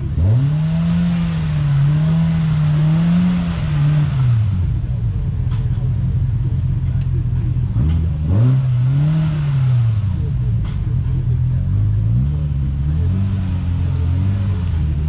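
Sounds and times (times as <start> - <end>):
utv engine revving: 0.0 - 15.0.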